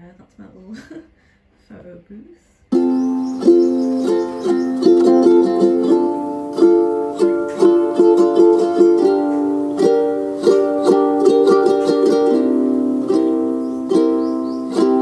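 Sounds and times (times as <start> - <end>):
plucked string music: 2.7 - 15.0.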